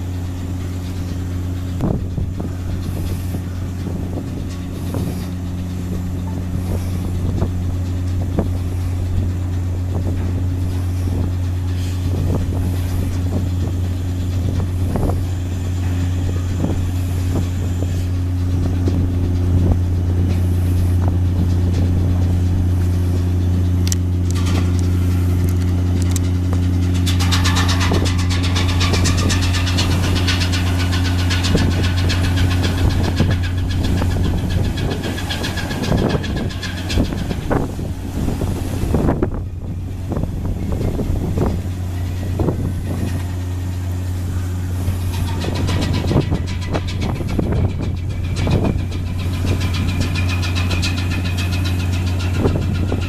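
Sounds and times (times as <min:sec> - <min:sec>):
ferry diesel engine drone: 0:00.0 - 0:53.0
rapid clicking rattle with whine: 0:00.0 - 0:53.0.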